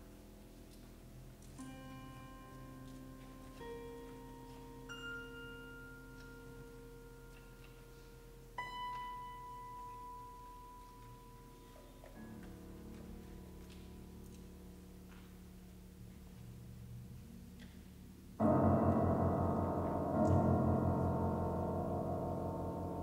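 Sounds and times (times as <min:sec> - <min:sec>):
soft slow grand piano: 0:00.0 - 0:23.0.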